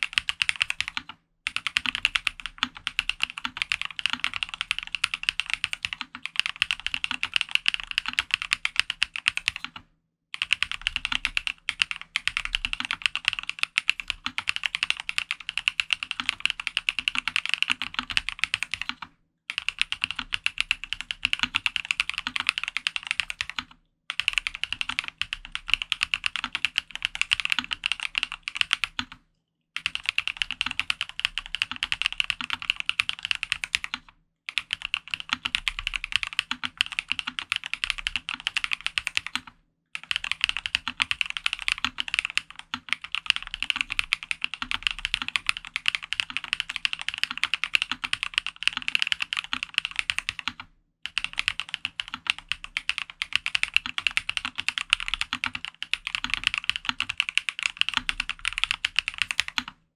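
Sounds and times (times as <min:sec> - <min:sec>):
mechanical keyboard typing: 0:00.0 - 0:59.8.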